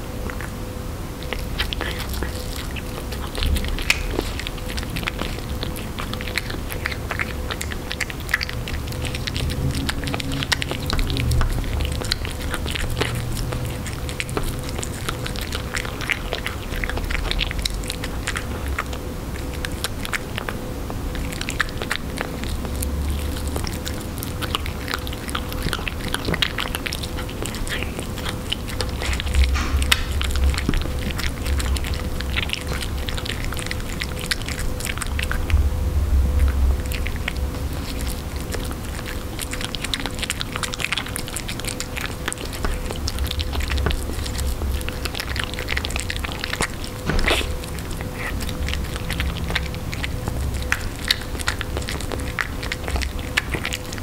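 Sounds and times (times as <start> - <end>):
cat chewing wet food: 0.0 - 54.0.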